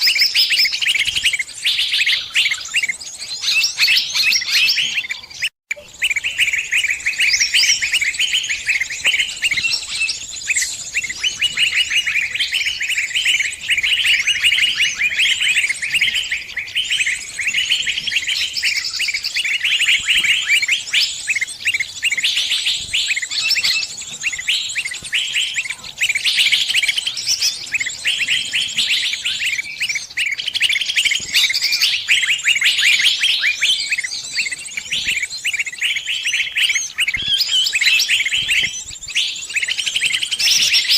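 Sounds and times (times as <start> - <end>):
sunbirds chirping and trilling: 0.0 - 40.9.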